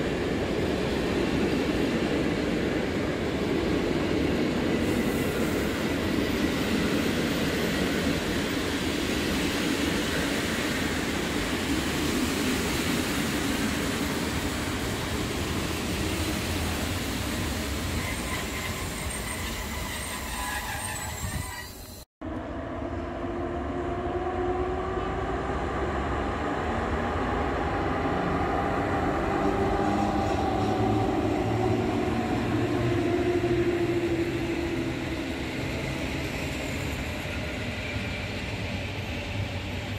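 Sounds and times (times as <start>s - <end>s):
train wheels rushing on rails: 0.0s - 22.1s, 25.1s - 39.9s.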